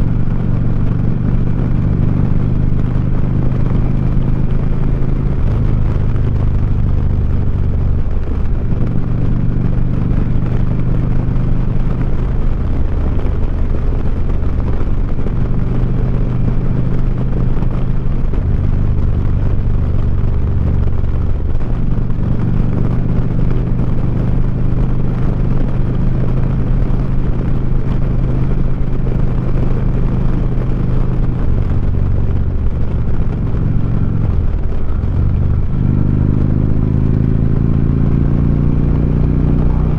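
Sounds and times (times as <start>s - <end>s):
motorcycle engine while riding: 0.0s - 39.9s
wind and road noise: 0.0s - 39.9s.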